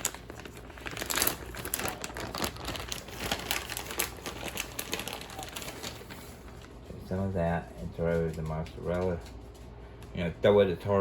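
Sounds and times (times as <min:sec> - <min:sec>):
cheese crinkling and rustling: 0:00.0 - 0:09.6.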